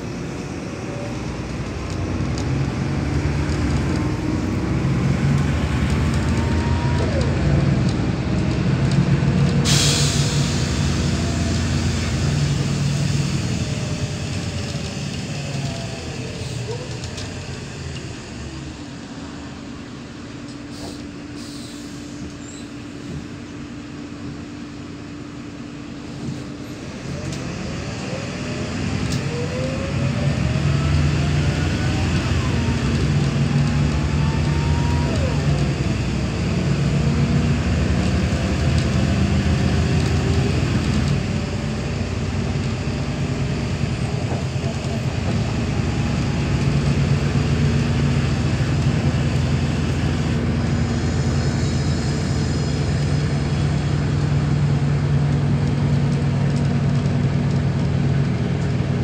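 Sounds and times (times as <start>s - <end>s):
bus diesel engine under load: 0.0s - 59.0s.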